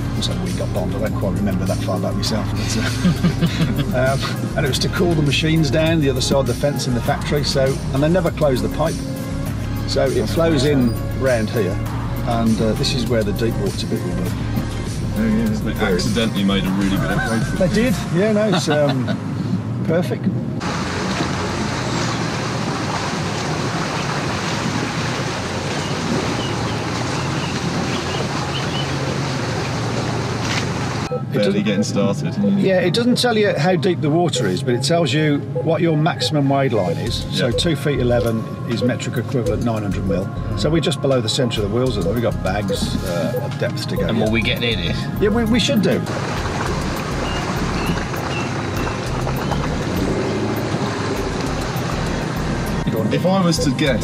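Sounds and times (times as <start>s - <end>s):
water rushing and sloshing: 0.0s - 31.3s, 32.8s - 54.0s
low engine hum: 0.0s - 33.2s, 41.6s - 54.0s.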